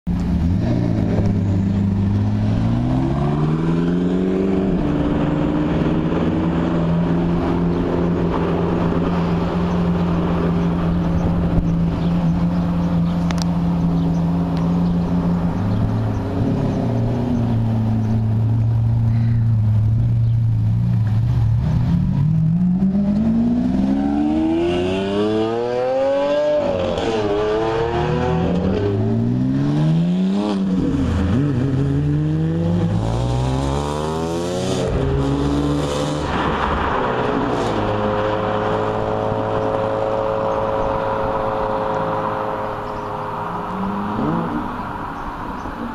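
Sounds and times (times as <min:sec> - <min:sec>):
sports car engines idling and revving: 0:00.1 - 0:45.9.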